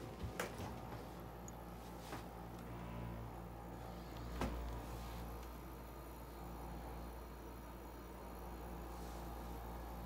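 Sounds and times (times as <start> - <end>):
dehumidifier humming: 0.0 - 10.0.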